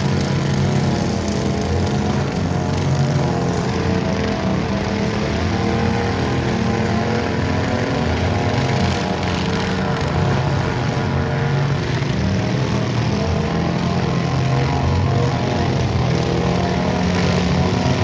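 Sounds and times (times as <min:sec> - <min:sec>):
garden tractor engines running: 0:00.0 - 0:18.0.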